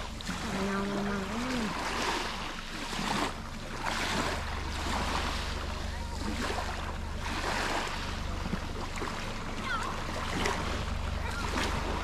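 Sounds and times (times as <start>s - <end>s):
low steady rumble: 0.0s - 12.0s
waves lapping on sand: 0.0s - 12.0s.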